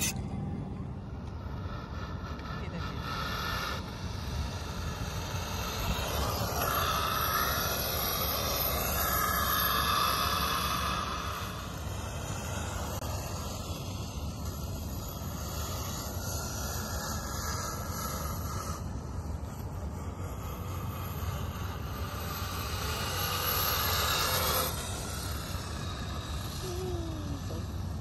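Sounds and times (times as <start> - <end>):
radio-controlled truck motor and tyres: 0.0 - 28.0
wind on microphone: 0.0 - 28.0.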